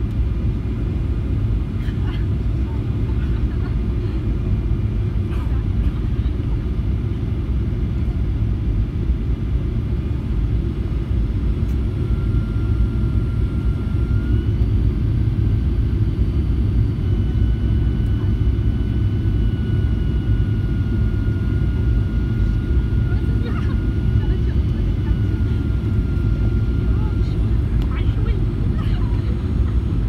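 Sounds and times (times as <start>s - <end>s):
high engine whine: 0.0s - 30.0s
jet engine roar in cabin: 0.0s - 30.0s.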